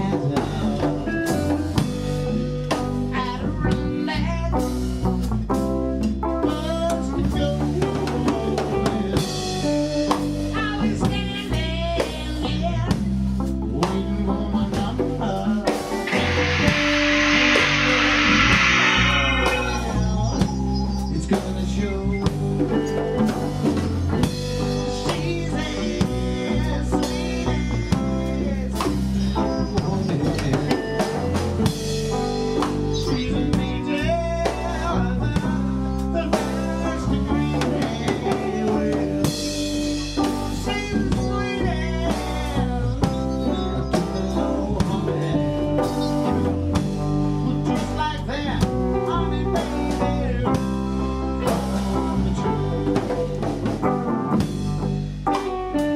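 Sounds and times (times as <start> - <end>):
blues-rock band playing: 0.0 - 55.9.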